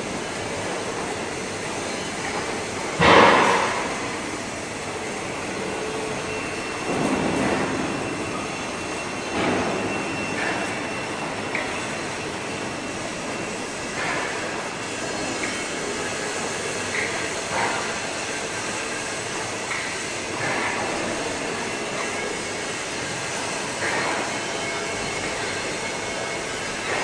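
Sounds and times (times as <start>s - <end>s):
industrial machinery din: 0.0s - 27.0s.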